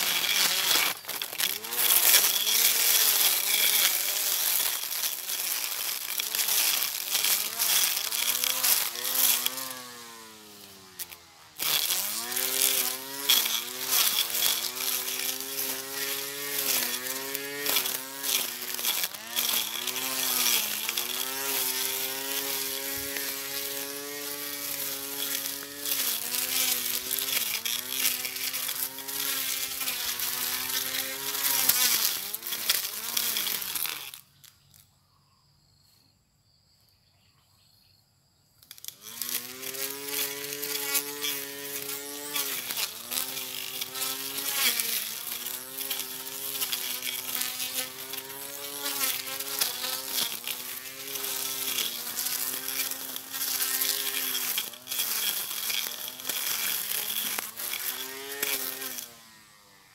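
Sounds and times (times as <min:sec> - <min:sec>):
electric grass cutter motor whining: 0:00.0 - 0:34.5, 0:38.6 - 0:59.9.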